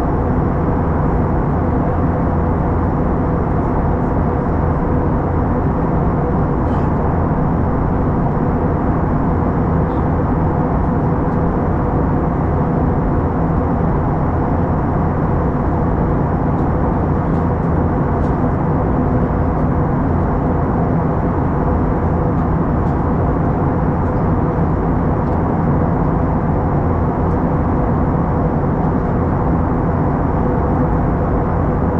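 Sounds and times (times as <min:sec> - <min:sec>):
airplane cabin engine drone: 0:00.0 - 0:31.9.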